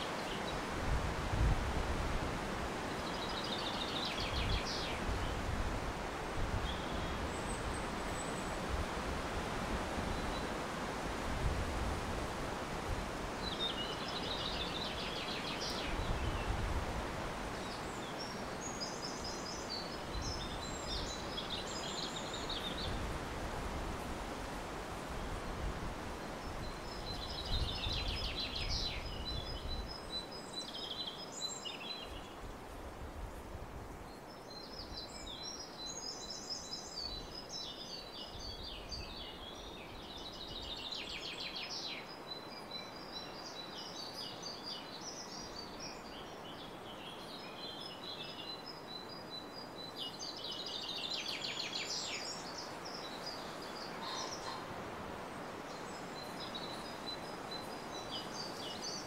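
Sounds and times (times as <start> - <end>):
songbirds twittering: 0.0 - 0.8, 2.8 - 5.6, 6.5 - 8.8, 10.0 - 10.6, 13.3 - 23.3, 25.4 - 32.8, 34.0 - 59.0
outdoor background hiss: 0.0 - 59.0.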